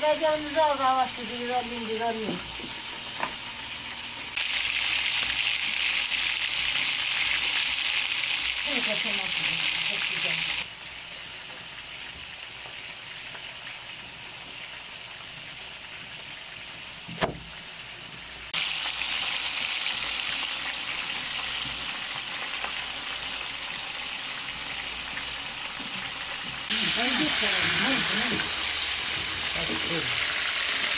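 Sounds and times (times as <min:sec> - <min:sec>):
food sizzling in hot oil: 0:00.0 - 0:30.9.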